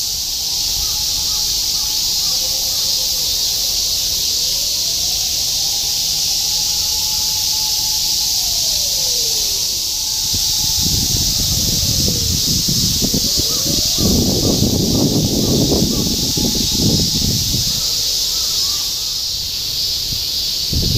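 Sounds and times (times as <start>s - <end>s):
cicadas chorus: 0.0s - 20.9s.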